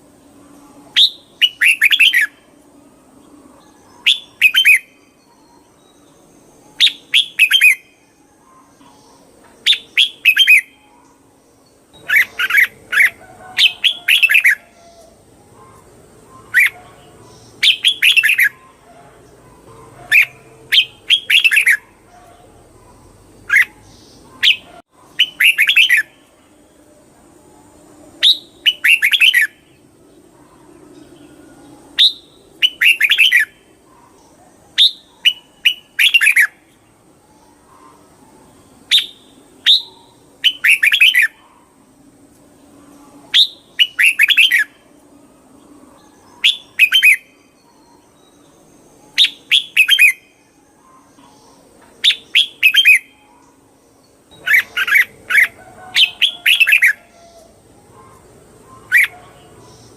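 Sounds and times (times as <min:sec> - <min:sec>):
bulbul singing: 0:00.0 - 0:26.8, 0:27.5 - 0:41.8, 0:42.6 - 0:59.9.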